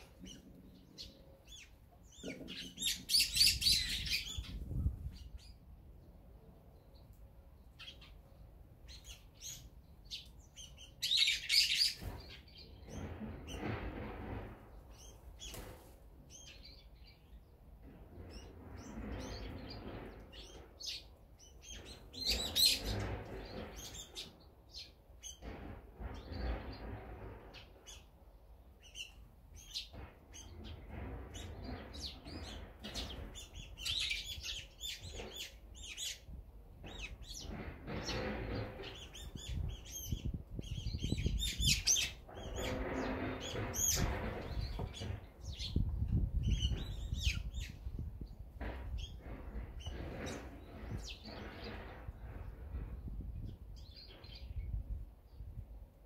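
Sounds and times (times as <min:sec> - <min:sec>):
songbirds chirping: 0:00.0 - 0:13.8, 0:14.4 - 0:55.8.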